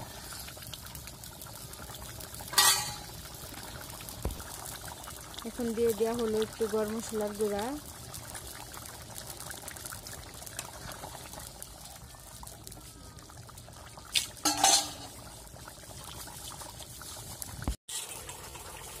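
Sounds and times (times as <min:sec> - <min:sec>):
curry bubbling at a boil: 0:00.0 - 0:19.0.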